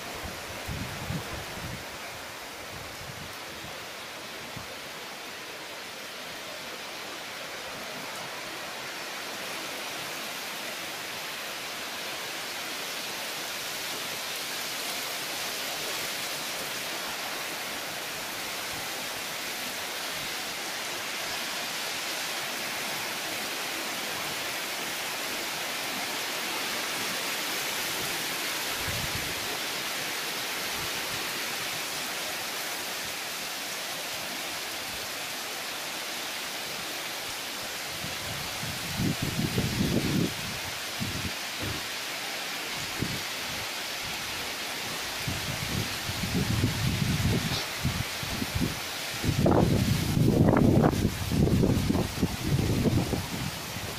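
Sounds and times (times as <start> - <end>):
heavy rain on foliage: 0.0 - 53.9.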